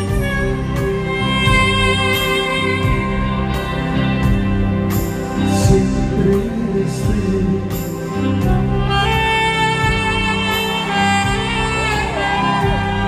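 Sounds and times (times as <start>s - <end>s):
saxophones and strings chords: 0.0s - 13.0s.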